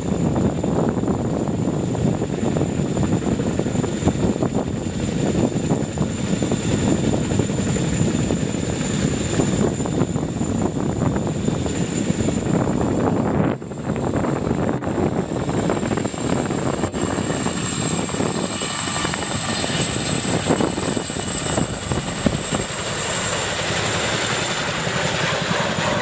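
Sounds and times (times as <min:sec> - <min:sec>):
helicopter rotor chop: 0:00.0 - 0:26.0.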